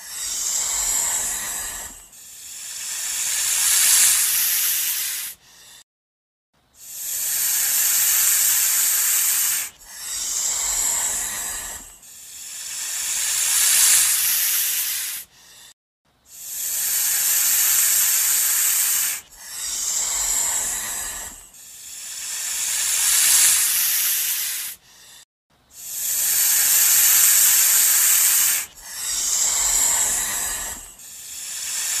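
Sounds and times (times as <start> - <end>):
snake hissing: 0.0 - 5.9, 6.8 - 32.0.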